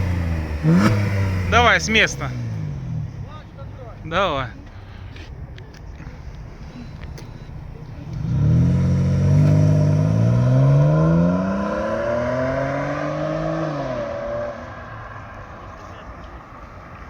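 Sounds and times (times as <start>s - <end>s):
car accelerating hard with gear shifts: 0.0s - 3.4s, 6.0s - 17.0s.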